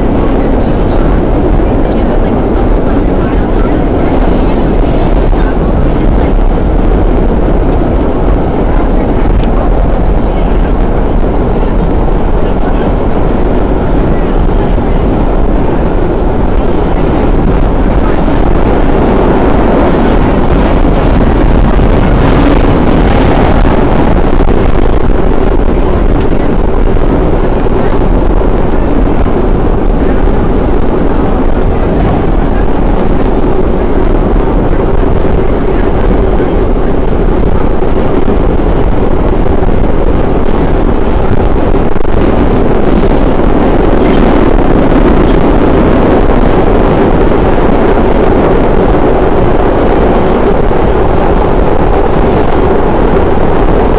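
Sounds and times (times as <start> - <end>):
subway train wheels rumbling on rails: 0.0 - 53.9.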